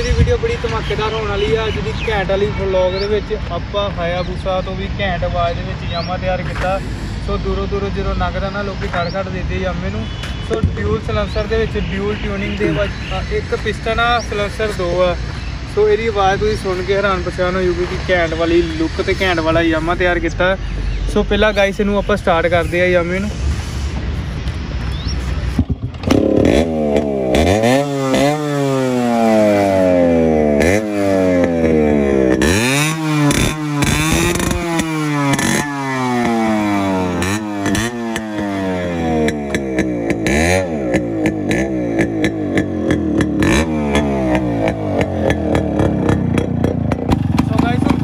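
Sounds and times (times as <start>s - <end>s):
two-stroke motorcycle revving: 4.1s - 21.3s, 25.4s - 48.0s.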